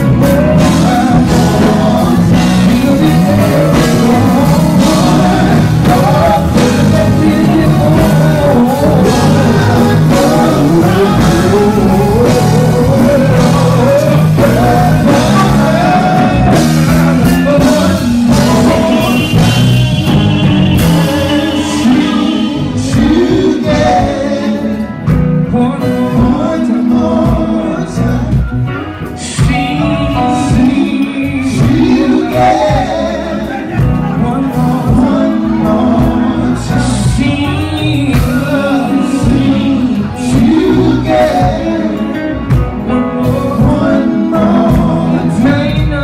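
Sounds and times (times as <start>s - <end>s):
instrumental backing with bass: 0.0s - 46.0s
male vocal group singing: 0.0s - 46.0s.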